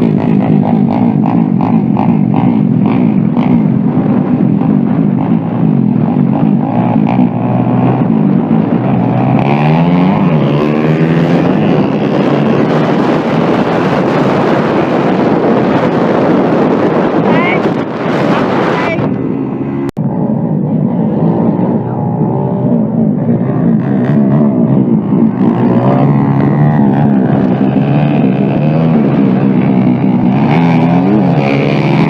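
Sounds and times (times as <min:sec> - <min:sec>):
motorbike engines revving: 0:00.0 - 0:32.0.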